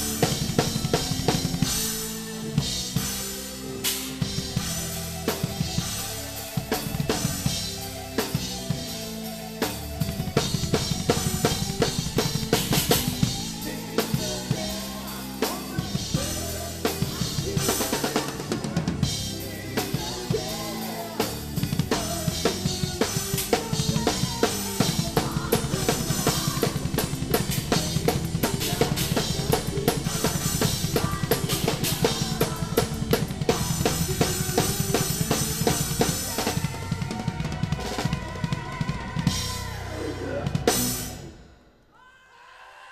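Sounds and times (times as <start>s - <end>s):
drum kit playing fast: 0.0s - 41.5s
metal band playing: 0.0s - 41.6s.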